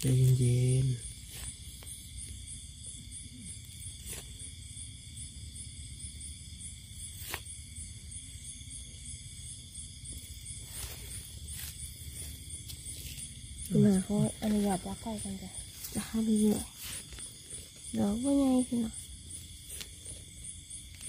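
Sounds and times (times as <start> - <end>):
insect chorus pulsing chirp: 0.0 - 21.0.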